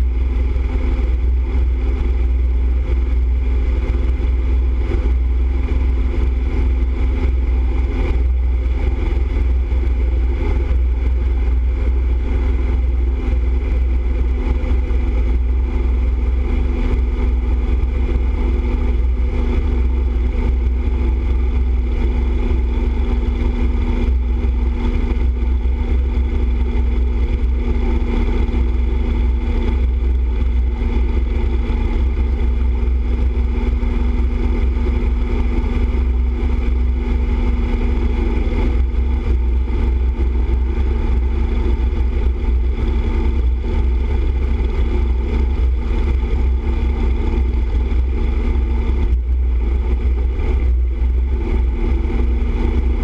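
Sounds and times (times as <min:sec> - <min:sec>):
deep wind rumble: 0:00.0 - 0:53.0
motorcycle engine drone: 0:00.0 - 0:53.0.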